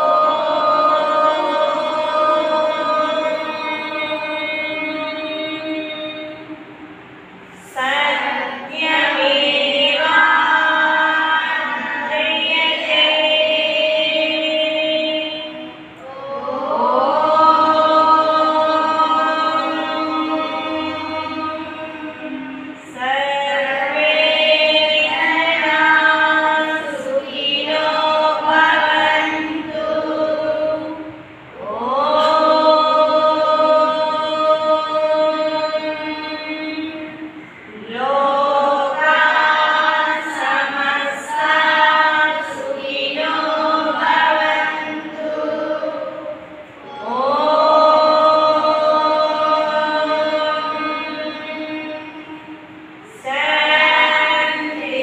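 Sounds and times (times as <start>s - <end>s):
woman and children chanting: 0.0s - 6.9s, 7.6s - 55.0s.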